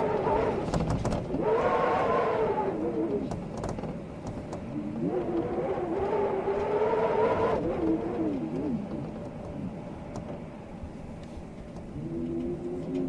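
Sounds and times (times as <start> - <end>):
steady rush of wind: 0.0 - 13.0
wind howling: 0.0 - 13.0.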